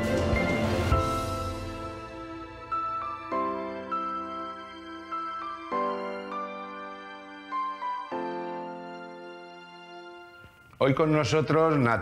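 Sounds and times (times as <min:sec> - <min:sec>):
soft slow instrumental music: 0:00.0 - 0:11.9.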